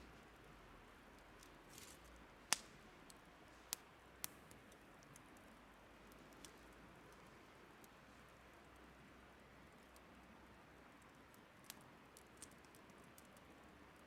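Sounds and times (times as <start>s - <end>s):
faint steady hiss: 0.0s - 14.0s
wood fire crackling: 0.0s - 14.0s.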